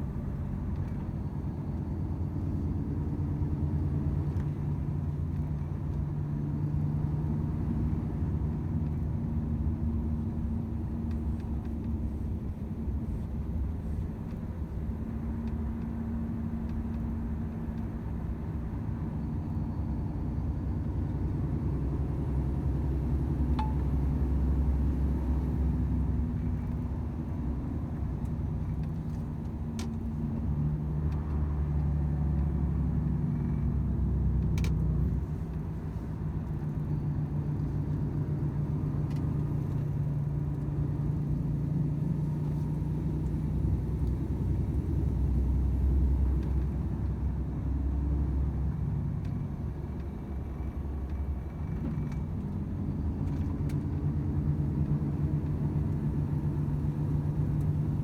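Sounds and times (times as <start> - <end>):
truck engine and tyres droning: 0.0 - 58.0.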